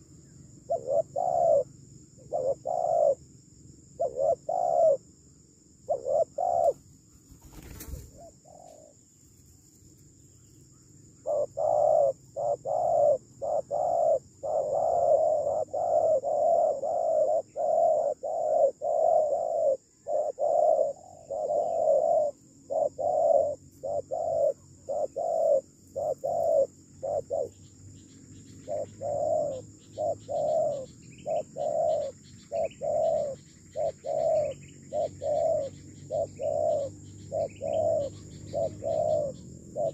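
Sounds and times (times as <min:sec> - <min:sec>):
dove cooing: 0:00.6 - 0:03.2, 0:04.0 - 0:05.1, 0:05.9 - 0:09.0, 0:11.2 - 0:27.6, 0:28.3 - 0:39.9.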